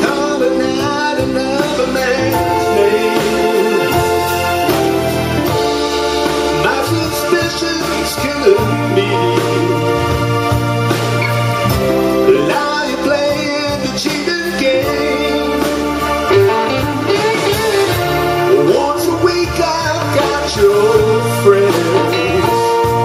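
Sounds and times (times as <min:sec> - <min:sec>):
blues band playing: 0:00.0 - 0:23.0.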